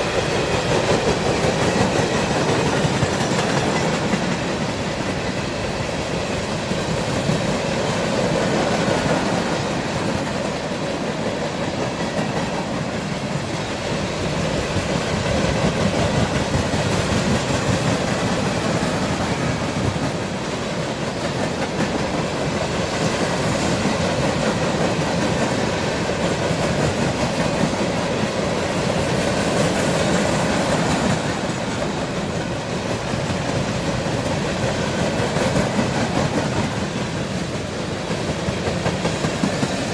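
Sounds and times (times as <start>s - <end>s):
clickety-clack over rail joints: 0.0s - 39.9s
steel wheels on rail: 0.0s - 39.9s.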